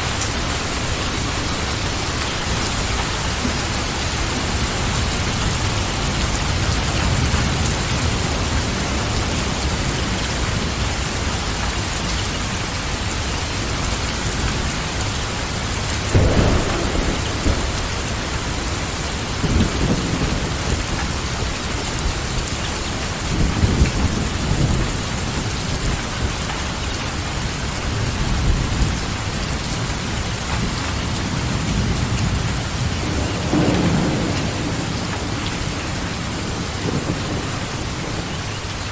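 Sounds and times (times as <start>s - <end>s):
steady rain: 0.0s - 38.9s
thunder rumbles: 0.0s - 38.9s.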